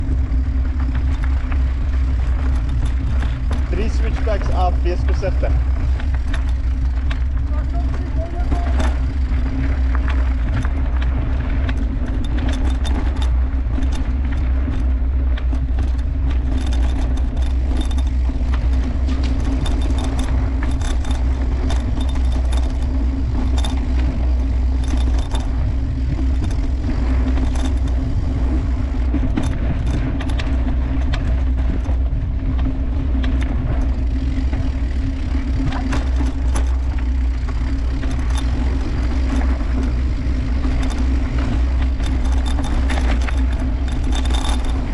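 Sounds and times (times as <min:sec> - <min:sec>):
bike rattling and clicking: 0:00.0 - 0:44.9
bike riding rumble: 0:00.0 - 0:44.9.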